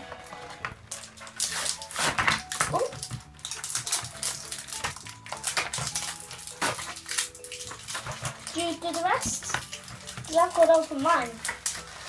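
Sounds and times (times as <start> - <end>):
packaging rustling and clattering: 0.0 - 12.0.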